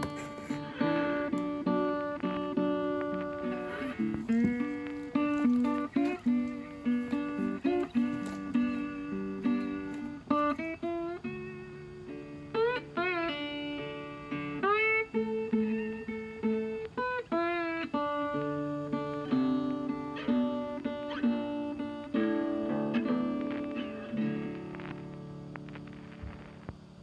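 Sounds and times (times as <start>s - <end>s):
plucked guitar tune: 0.0s - 27.0s.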